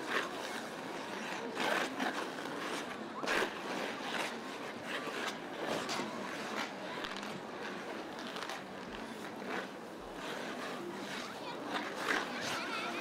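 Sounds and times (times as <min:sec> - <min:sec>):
ice skate blades scraping: 0:00.0 - 0:13.0.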